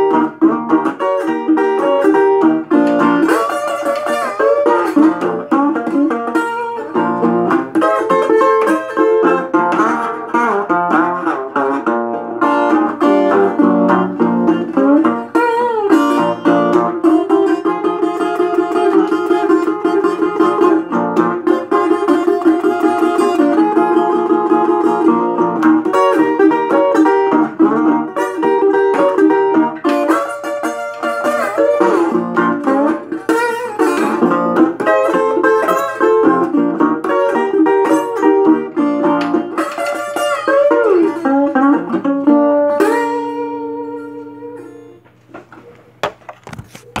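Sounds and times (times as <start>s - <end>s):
slide resonator guitar: 0.0s - 47.0s.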